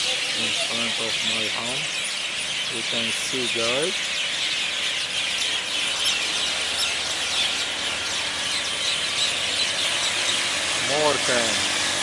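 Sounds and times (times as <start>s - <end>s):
flock of birds chattering: 0.0s - 12.0s.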